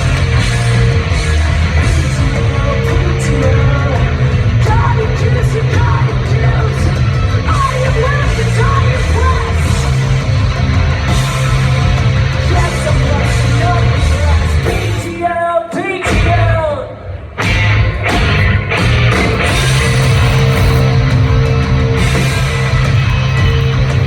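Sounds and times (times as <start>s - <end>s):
live rock band playing: 0.0s - 15.3s, 16.0s - 24.0s.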